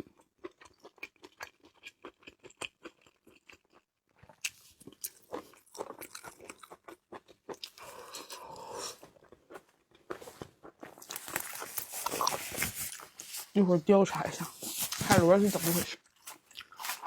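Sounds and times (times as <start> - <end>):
chewing and biting: 0.0 - 13.5, 16.0 - 17.0.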